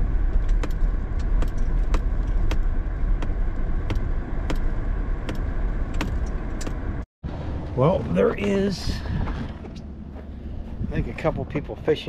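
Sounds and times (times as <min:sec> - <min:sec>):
truck engine and tyres rumbling: 0:00.0 - 0:12.0.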